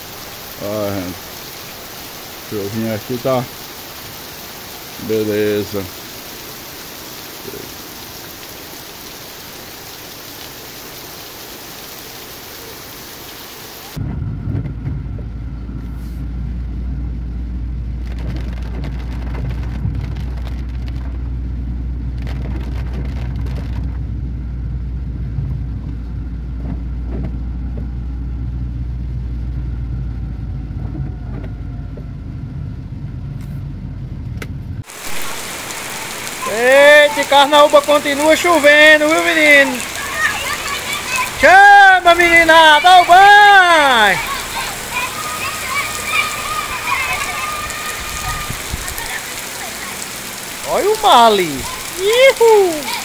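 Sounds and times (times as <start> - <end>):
rain hissing: 0.0 - 34.0, 34.8 - 53.0
car driving on wet road: 0.0 - 53.0
rain on windscreen: 0.0 - 53.0.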